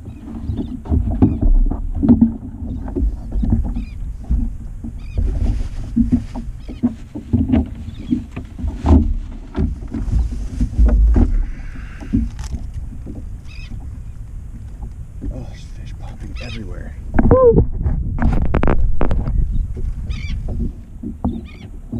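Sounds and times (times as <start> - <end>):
low rumble on microphone: 0.0 - 21.9
water slapping against hull: 0.0 - 21.9
thumps: 0.5 - 14.0, 17.1 - 21.9.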